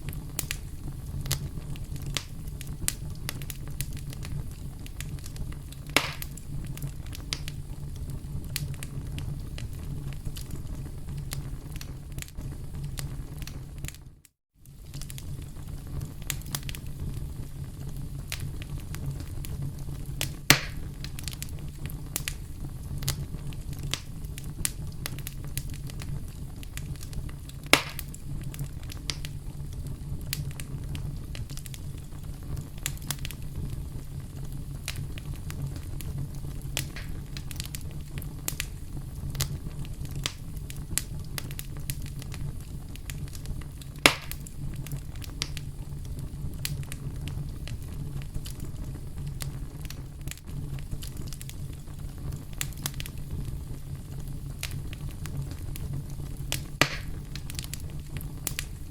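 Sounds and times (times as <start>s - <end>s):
campfire crackling: 0.0s - 58.9s
low rumble of flames: 0.0s - 58.9s
sharp fire pops: 0.0s - 58.9s.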